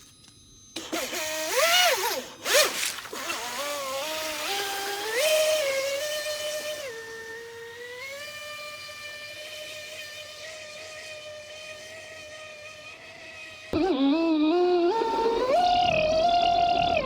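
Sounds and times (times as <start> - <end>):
jet boat motor whining: 0.0 - 17.0.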